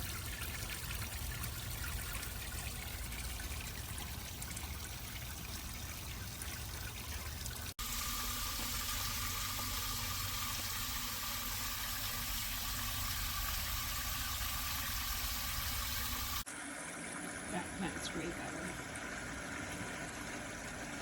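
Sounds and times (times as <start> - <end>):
fountain water trickling and splashing: 0.0 - 21.0.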